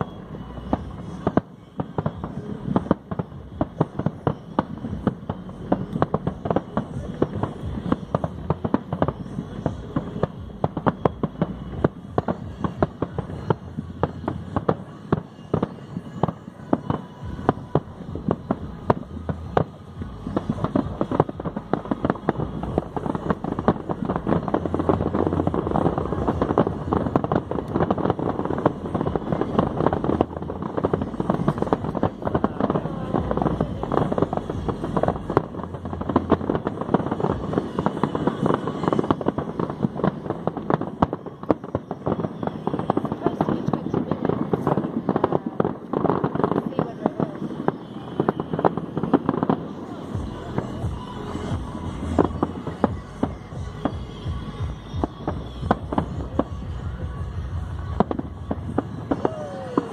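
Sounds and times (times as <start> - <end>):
dense crackling pops: 0.0 - 59.9.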